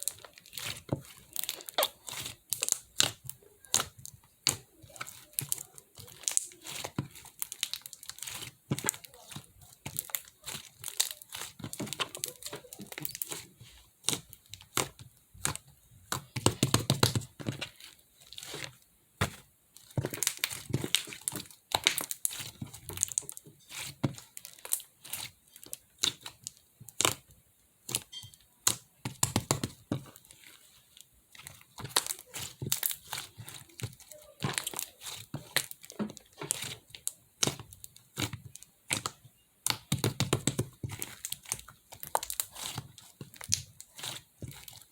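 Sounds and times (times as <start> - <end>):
slime clicking and popping: 0.0 - 13.4, 20.0 - 30.2, 31.4 - 44.9.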